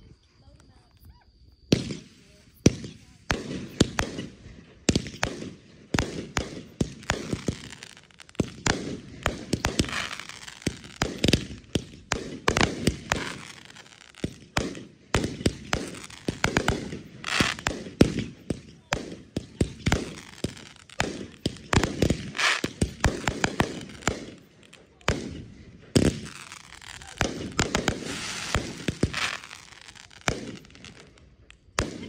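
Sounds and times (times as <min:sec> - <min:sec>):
firework crackling: 0:01.8 - 0:32.0
firework shells bursting: 0:02.7 - 0:32.0.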